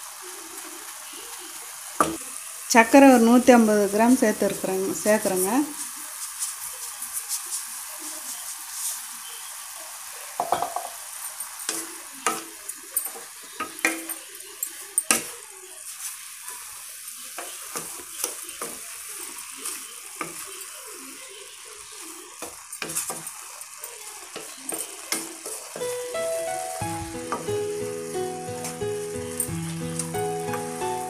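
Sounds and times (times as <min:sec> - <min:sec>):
carrots sizzling in a pan: 0:00.0 - 0:31.0.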